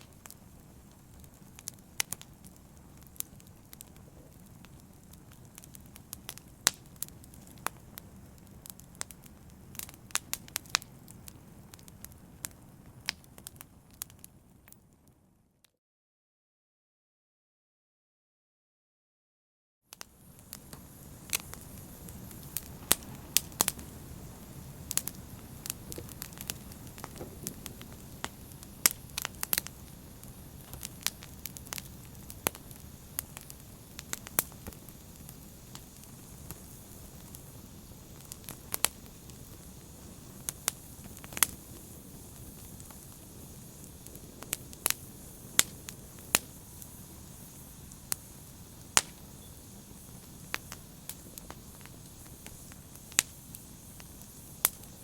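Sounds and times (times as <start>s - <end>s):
fire crackling and popping: 0.0s - 15.2s, 19.9s - 55.0s
low rumble of flames: 0.0s - 15.2s, 20.0s - 55.0s.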